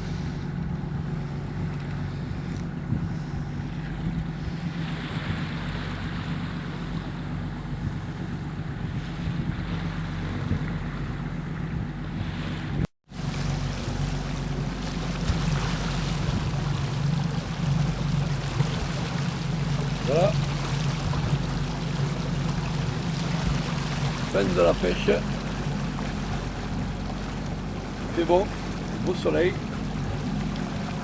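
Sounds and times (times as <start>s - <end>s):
boat engine running: 0.0s - 31.0s
water rushing along hull: 0.0s - 31.0s
wind on microphone: 0.0s - 31.0s.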